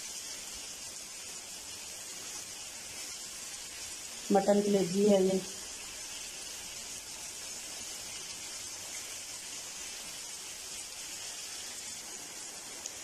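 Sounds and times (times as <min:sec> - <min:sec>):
liver sizzling in frying pan: 0:00.0 - 0:13.0.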